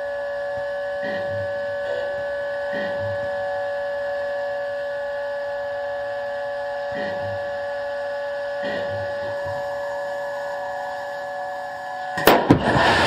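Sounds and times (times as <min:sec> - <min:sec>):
steady electronic hum: 0:00.0 - 0:13.0.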